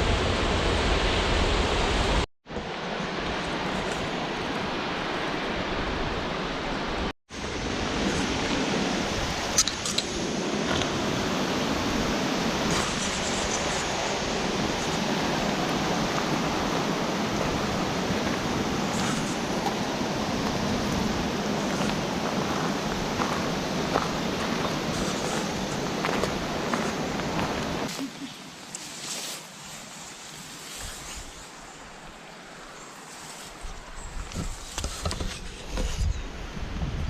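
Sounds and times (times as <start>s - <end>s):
water rushing: 0.0s - 34.0s.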